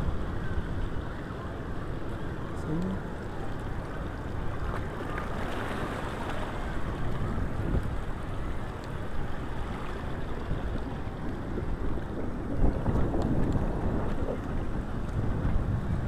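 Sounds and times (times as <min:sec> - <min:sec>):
waves and churning water: 0:00.0 - 0:16.0
wind across microphone: 0:00.0 - 0:16.0.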